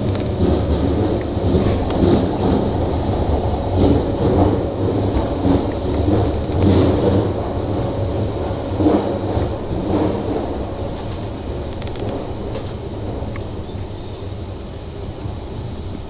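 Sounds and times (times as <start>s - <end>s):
train clatter: 0.0s - 16.0s
train wheels rumbling on rail: 0.0s - 16.0s.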